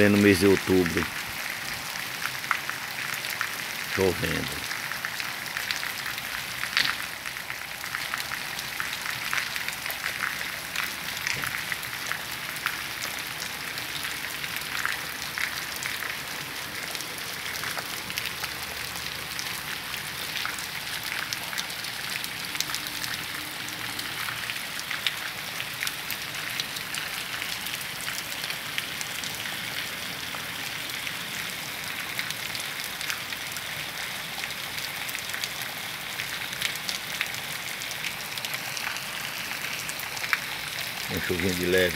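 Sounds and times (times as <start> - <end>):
rain on wet pavement: 0.0 - 41.9.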